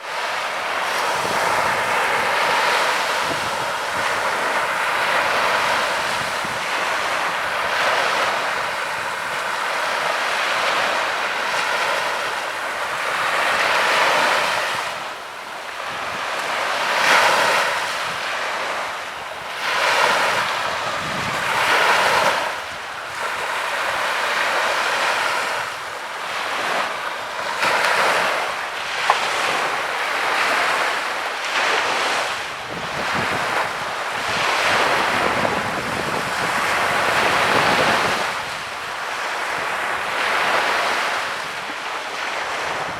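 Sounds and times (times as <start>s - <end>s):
small waves breaking on sand: 0.0s - 42.9s
wind buffeting microphone: 0.1s - 42.9s.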